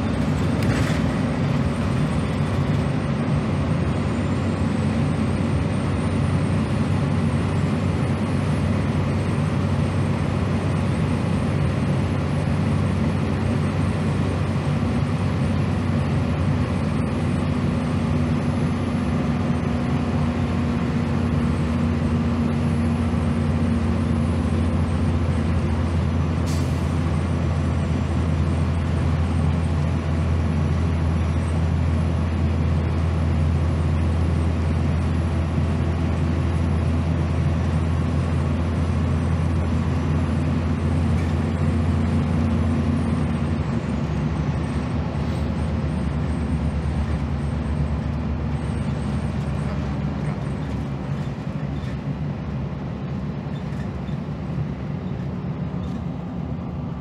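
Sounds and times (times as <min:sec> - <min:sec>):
bus diesel engine hum: 0:00.0 - 0:57.0
road and tyre noise: 0:00.0 - 0:57.0.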